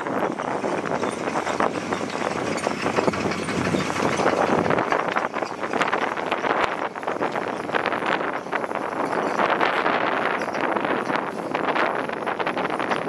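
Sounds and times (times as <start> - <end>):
diesel machinery running: 0.0 - 13.0
clattering and knocking: 0.3 - 11.3.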